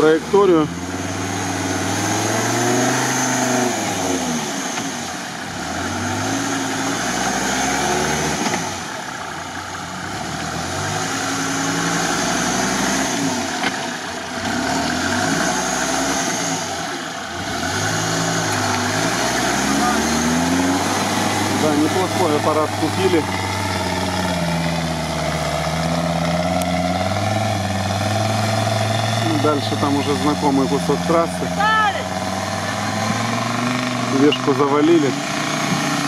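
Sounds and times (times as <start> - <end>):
buggy engine revving: 0.0 - 36.0.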